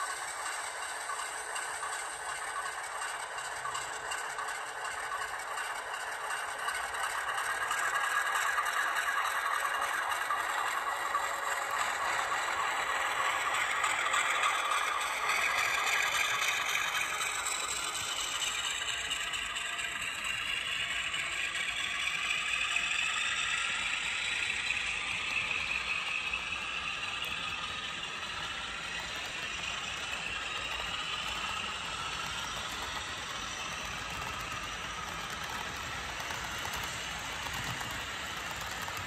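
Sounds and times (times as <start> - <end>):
model train wheels clicking: 0.0 - 39.0.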